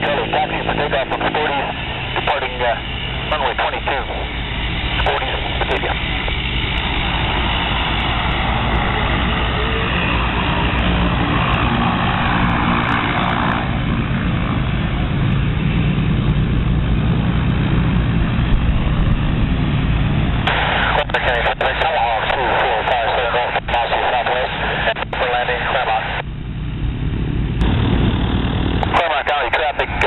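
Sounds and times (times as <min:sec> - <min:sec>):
turboprop plane taxiing drone: 0:00.0 - 0:30.0.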